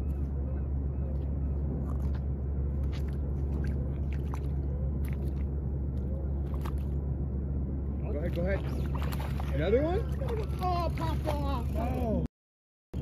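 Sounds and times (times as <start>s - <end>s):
steady low rumble: 0.0s - 12.3s.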